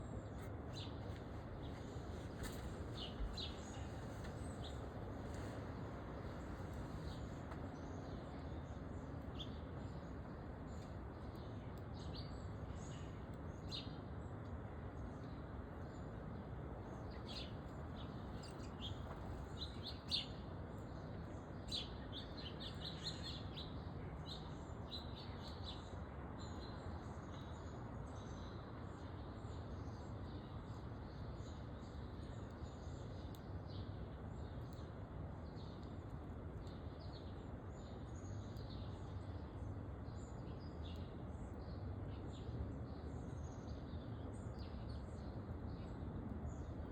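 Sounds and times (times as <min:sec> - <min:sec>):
low outdoor background hum: 0:00.0 - 0:46.9
songbirds chirping: 0:00.0 - 0:46.9.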